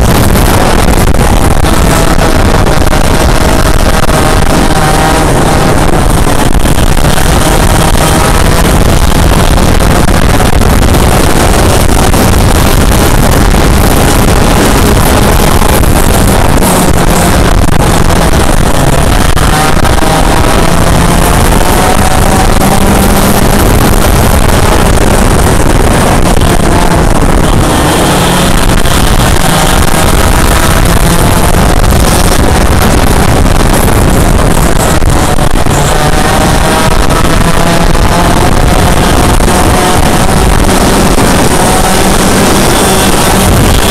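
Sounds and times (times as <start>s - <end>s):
kart engine revving: 0.0s - 43.9s
other kart engines: 0.0s - 43.9s.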